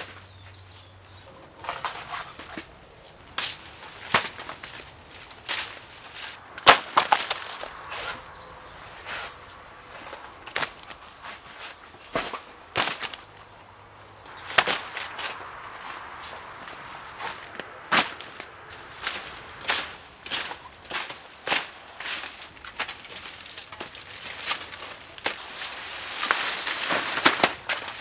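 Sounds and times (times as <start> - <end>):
dry leaves cracking and crunching: 0.0 - 28.0.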